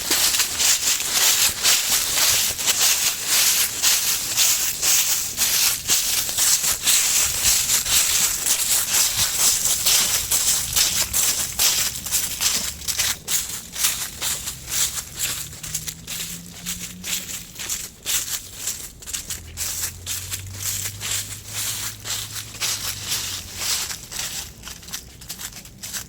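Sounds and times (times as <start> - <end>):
footsteps crunching dry leaves: 0.0 - 26.0.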